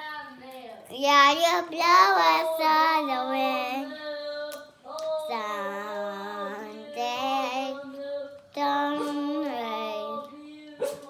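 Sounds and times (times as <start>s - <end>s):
person singing long gliding notes: 2.1s - 11.0s.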